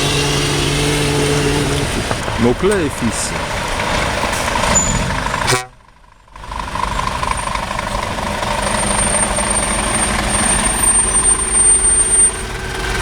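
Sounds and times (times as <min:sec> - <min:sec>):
road noise: 0:00.0 - 0:13.0
truck engines rumbling: 0:00.0 - 0:13.0.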